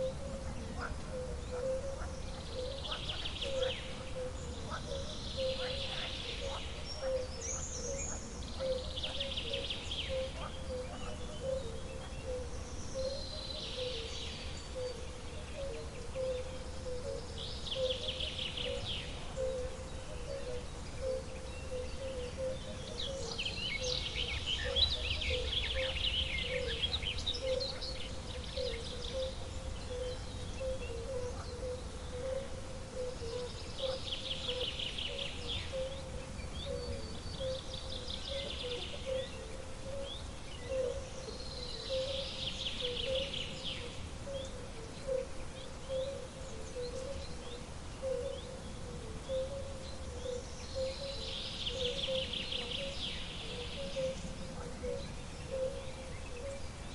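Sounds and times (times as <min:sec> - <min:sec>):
birds singing: 0:00.0 - 0:56.9.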